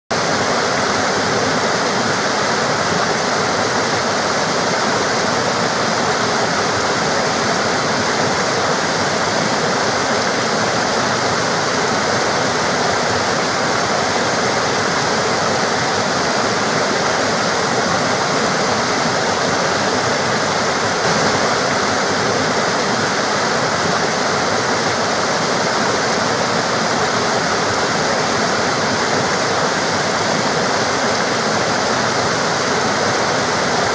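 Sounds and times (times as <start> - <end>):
stream water flowing and splashing: 0.1 - 33.9.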